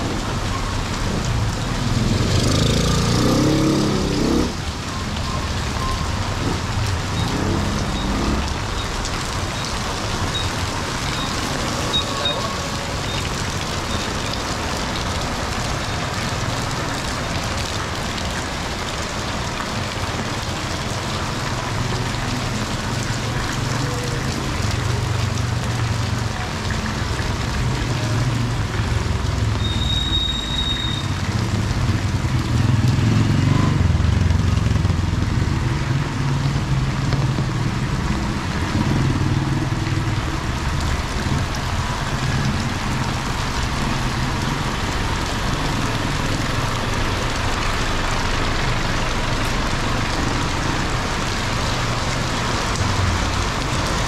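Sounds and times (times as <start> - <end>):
rain falling on street: 0.0 - 54.0
road traffic: 0.0 - 54.0.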